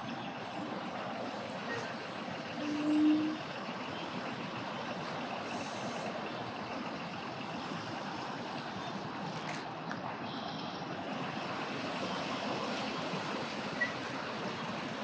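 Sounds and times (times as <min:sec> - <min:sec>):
traffic hum: 0:00.0 - 0:15.0.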